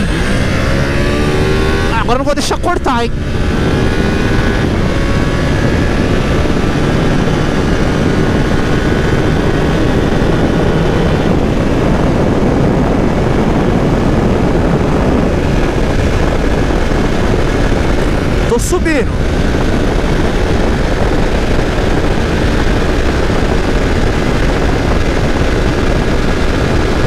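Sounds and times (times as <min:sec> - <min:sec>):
heavy wind noise: 0:00.0 - 0:27.0
motorcycle engine accelerating: 0:00.0 - 0:27.0.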